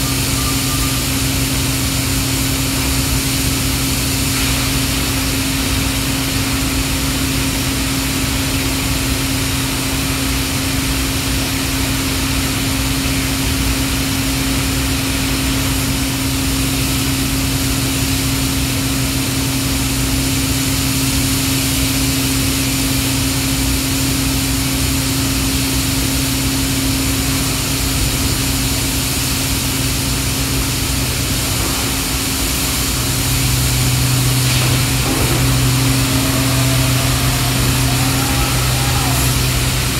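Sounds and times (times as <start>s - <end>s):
hydraulic power unit humming: 0.0s - 39.9s.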